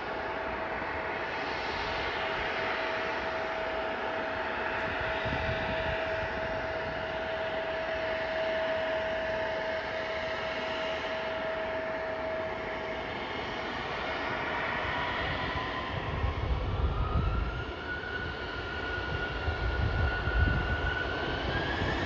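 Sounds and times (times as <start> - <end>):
distant jet engines whining: 0.0 - 22.0.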